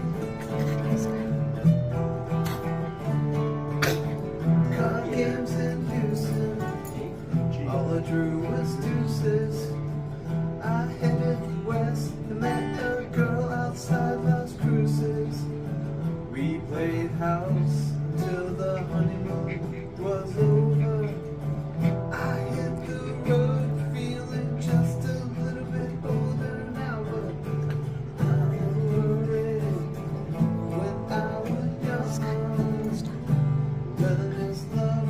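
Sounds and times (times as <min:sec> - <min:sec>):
acoustic guitar melody over chords: 0:00.0 - 0:35.0.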